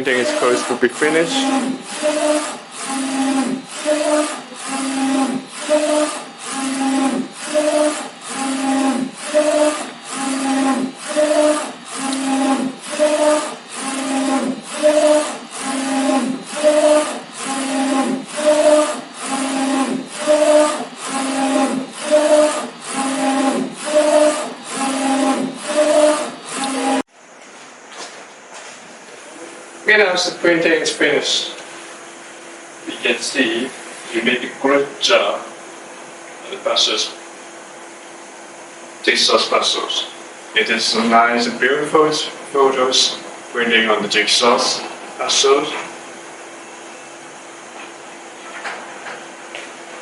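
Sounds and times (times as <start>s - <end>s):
printer carriage motor hum: 0.0s - 27.4s, 28.6s - 50.0s.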